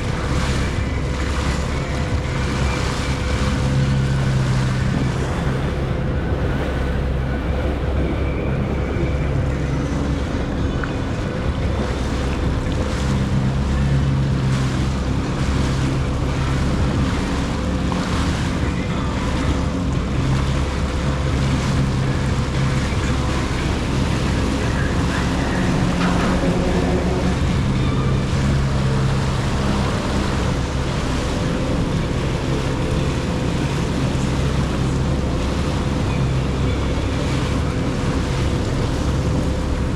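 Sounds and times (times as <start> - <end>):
jet ski engine running: 0.0 - 39.9
water rushing: 0.0 - 39.9
wind on microphone: 0.0 - 39.9.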